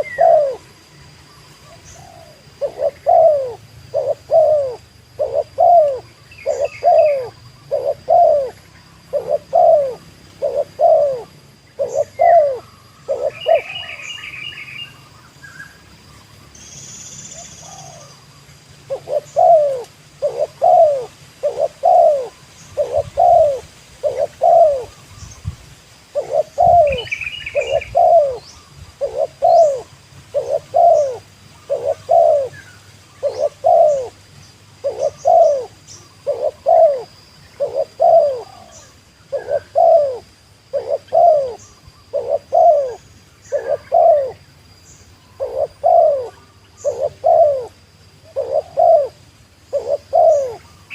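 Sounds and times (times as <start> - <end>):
dove cooing: 0.0 - 0.8, 1.6 - 15.0, 17.4 - 25.2, 26.1 - 34.2, 34.8 - 44.5, 45.3 - 50.9
small birds chirping: 0.0 - 50.9.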